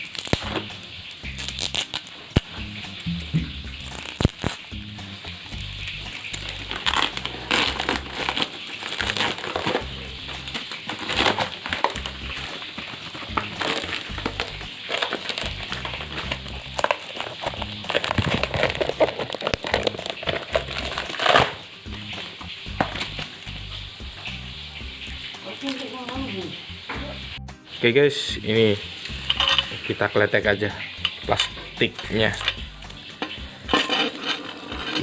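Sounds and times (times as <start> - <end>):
plastic wrap crinkling: 0.0 - 4.7, 5.5 - 24.3, 25.2 - 26.6, 31.1 - 35.0
background music: 0.0 - 35.0.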